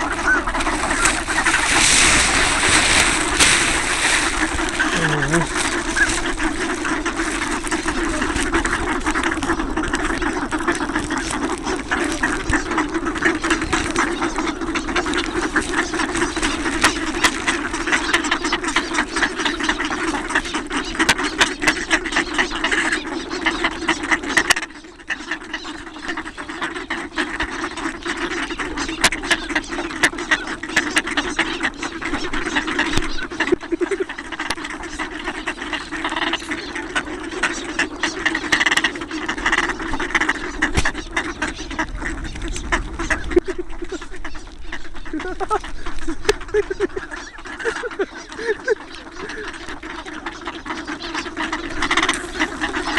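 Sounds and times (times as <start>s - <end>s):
ducks quacking: 0.0s - 52.9s.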